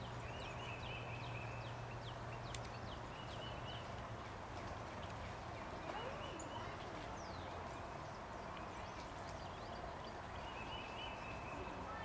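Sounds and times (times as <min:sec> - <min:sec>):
steady hiss and low rumble: 0:00.0 - 0:12.0.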